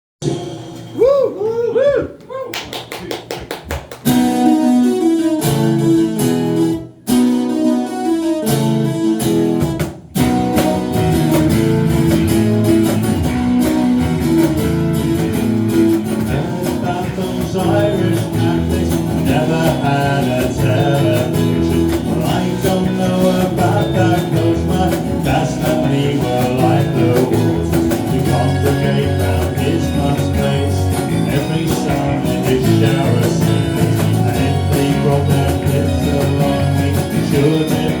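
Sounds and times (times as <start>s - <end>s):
strummed guitar: 4.0s - 38.0s.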